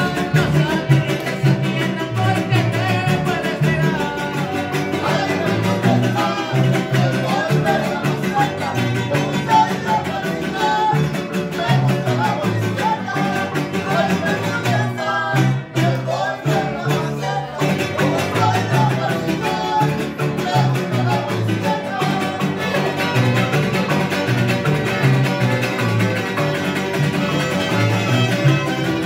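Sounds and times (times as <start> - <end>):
harp plucking bass line: 0.0 - 29.0
men singing: 0.0 - 29.0
strummed vihuela and guitar: 0.0 - 29.0.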